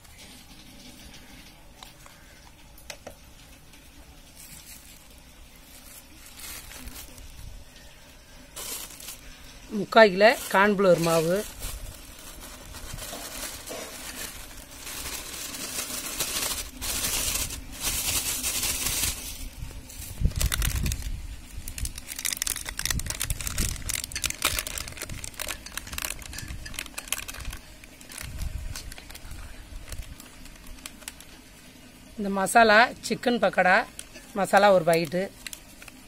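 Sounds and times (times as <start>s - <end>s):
powder pouring with light ticks: 0.0s - 19.4s, 20.2s - 36.0s
plastic bag crinkling: 4.2s - 31.9s, 33.8s - 36.0s.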